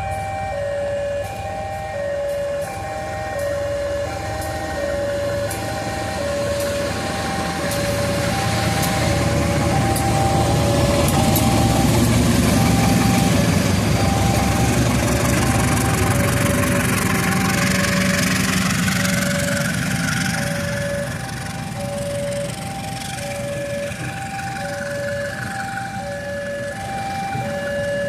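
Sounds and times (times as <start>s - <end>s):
diesel train passing: 0.0s - 28.0s
level-crossing alarm two tones: 0.0s - 28.0s.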